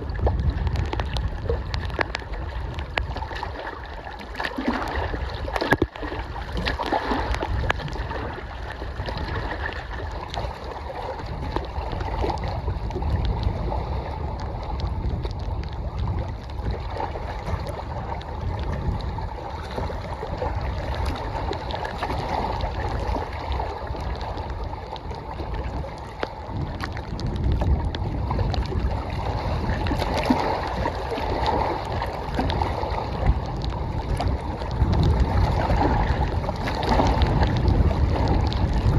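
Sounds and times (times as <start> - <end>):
water lapping against shore: 0.0 - 38.9
wind buffeting microphone: 0.0 - 38.9.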